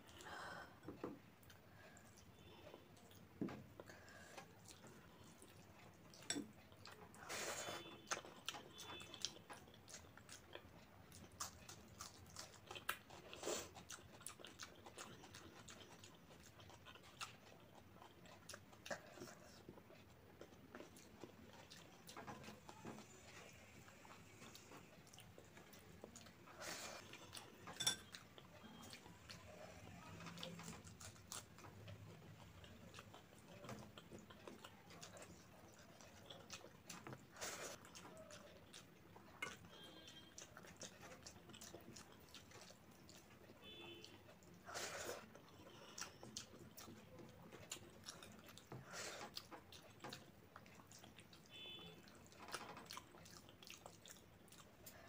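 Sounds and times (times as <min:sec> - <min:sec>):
wet chewing and lip smacks: 0:01.4 - 0:55.0.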